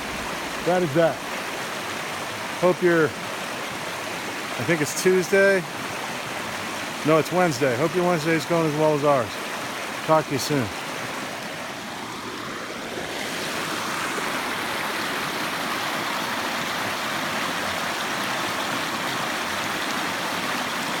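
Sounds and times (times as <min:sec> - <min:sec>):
creek flowing over rocks: 0:00.0 - 0:21.0.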